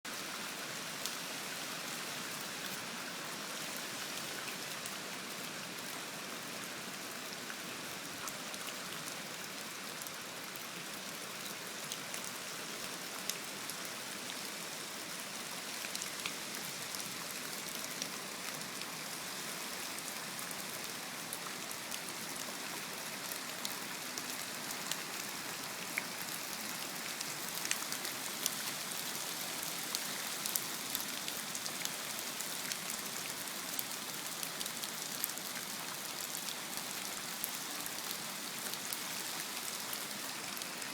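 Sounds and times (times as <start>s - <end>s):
steady rain falling: 0.1s - 40.9s
raindrops ticking on surfaces: 2.3s - 40.9s.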